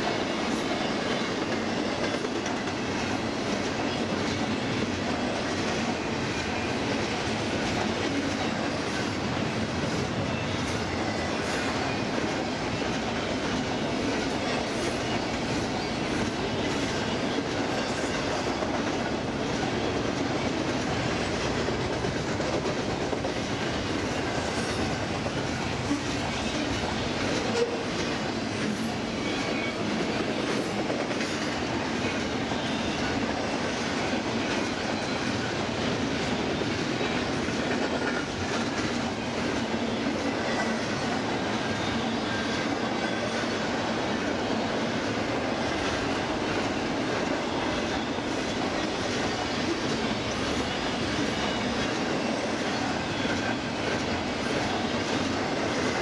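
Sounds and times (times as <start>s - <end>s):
steel wheels rolling on rail: 0.0s - 56.0s.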